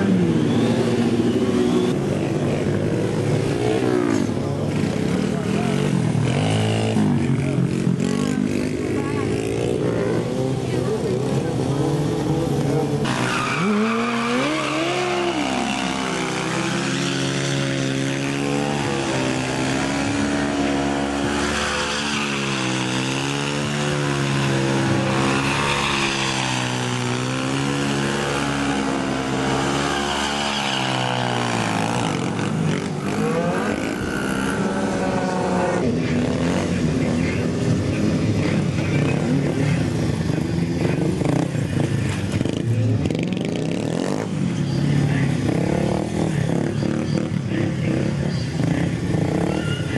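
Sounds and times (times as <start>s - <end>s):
mini bike engine revving: 0.0s - 44.5s, 45.3s - 49.9s.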